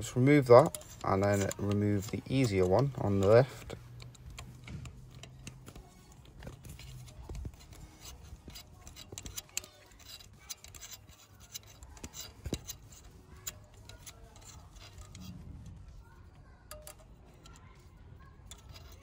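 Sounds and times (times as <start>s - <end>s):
ratchet driver clicking: 0.0s - 19.0s.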